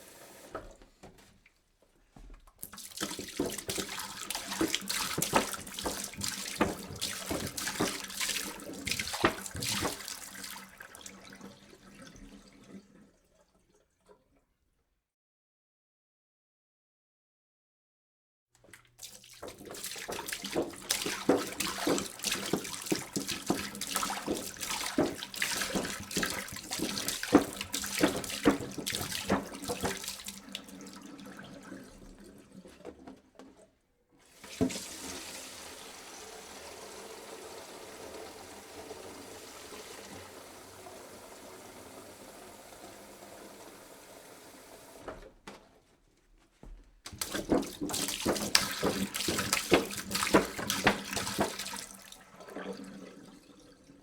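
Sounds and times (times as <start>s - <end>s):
water pouring into a jug: 2.6s - 14.3s, 18.7s - 33.2s, 34.2s - 45.0s, 47.1s - 54.0s.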